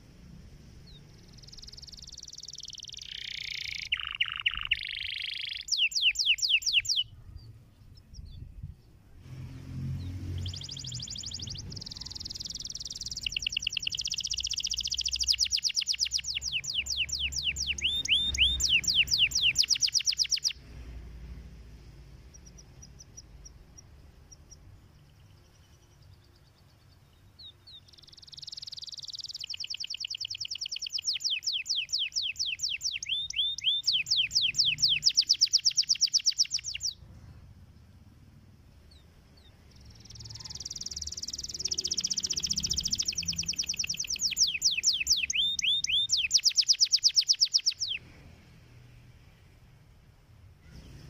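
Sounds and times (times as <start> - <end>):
canary trilling song: 0.0 - 8.7, 9.3 - 48.1.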